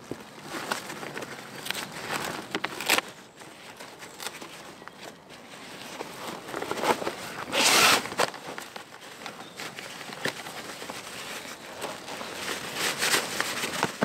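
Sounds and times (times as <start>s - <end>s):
fabric rustling: 0.0s - 14.0s.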